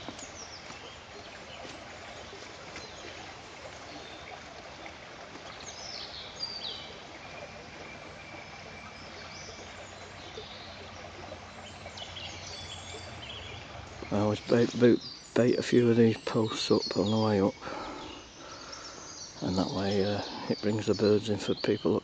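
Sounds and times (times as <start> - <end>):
shallow brook flowing: 0.0 - 22.0
small birds singing: 0.0 - 22.0.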